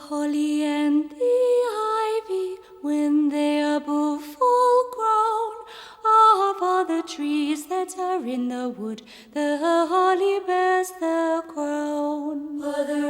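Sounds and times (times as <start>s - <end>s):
slow sung song: 0.0s - 13.0s.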